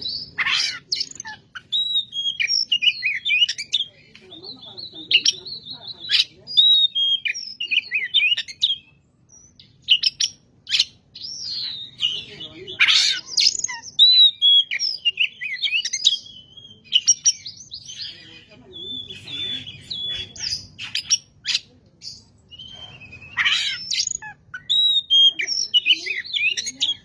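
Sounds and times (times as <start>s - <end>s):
songbird singing whistles and chirps: 0.0s - 27.0s.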